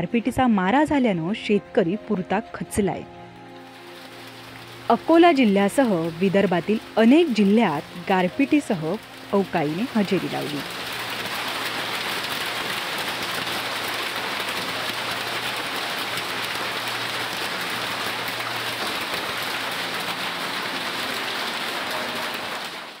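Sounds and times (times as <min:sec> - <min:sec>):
rain and hail on metal roof: 0:03.6 - 0:23.0.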